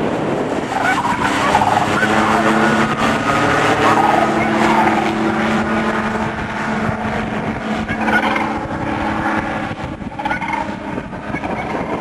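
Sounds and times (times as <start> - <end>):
ultralight airplane engine droning: 0.0 - 12.0.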